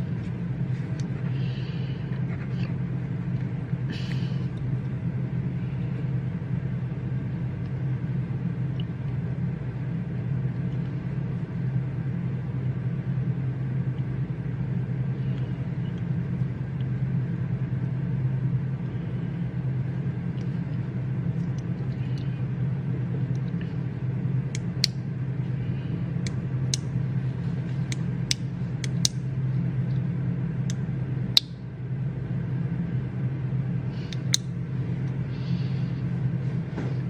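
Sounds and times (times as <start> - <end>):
low hum: 0.0 - 37.0.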